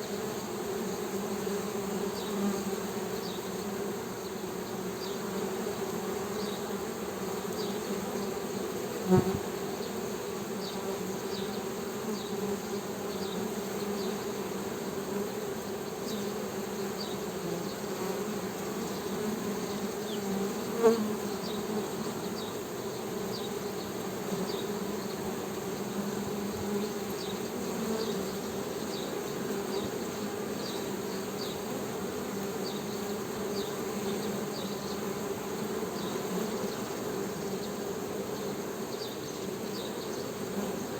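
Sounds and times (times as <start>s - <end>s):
honey bees humming: 0.0s - 40.9s.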